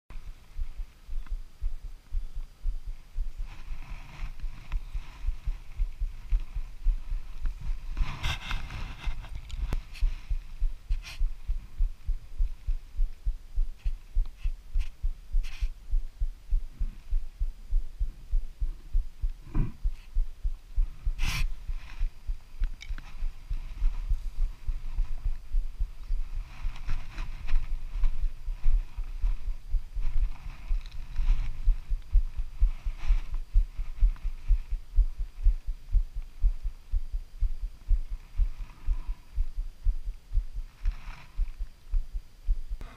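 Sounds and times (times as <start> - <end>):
low thumping on microphone: 0.1 - 42.9.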